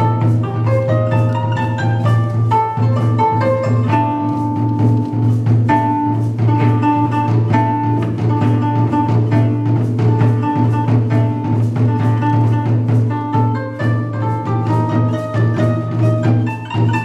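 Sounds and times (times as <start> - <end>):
plucked koto: 0.0 - 17.0
taiko drum strikes: 0.0 - 17.0.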